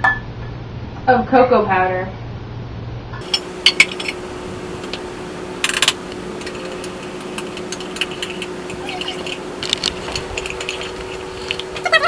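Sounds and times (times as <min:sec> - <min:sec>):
faint steady hum: 0:00.1 - 0:12.0.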